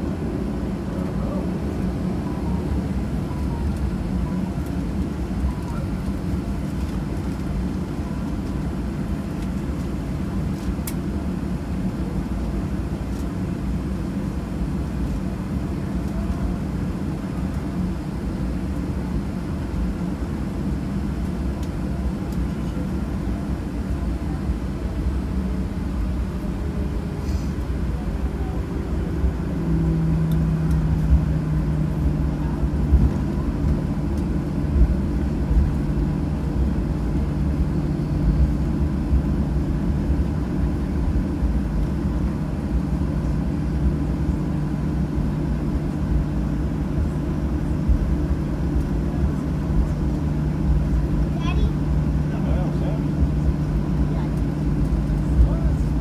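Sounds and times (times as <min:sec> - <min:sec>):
jet engines idling rumble: 0:00.0 - 0:56.0
steady hum: 0:00.0 - 0:56.0.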